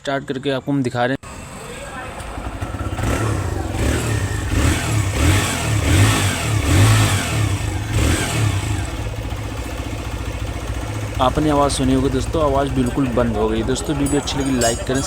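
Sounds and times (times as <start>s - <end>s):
motorcycle engine revving: 1.2s - 15.0s.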